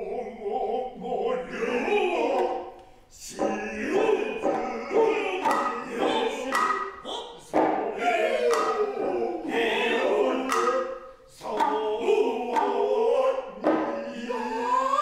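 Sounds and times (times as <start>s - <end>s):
voices chanting in unison: 0.0s - 15.0s
sharp drum strokes: 2.3s - 14.5s.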